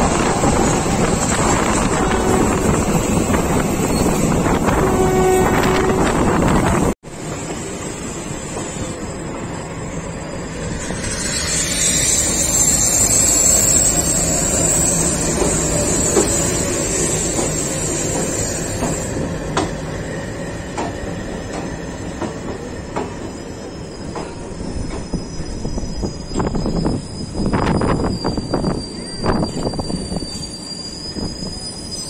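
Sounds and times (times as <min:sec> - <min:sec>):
high wheel squeal: 0:00.0 - 0:06.9, 0:08.6 - 0:32.0
train wheels rumbling on rails: 0:00.0 - 0:32.0.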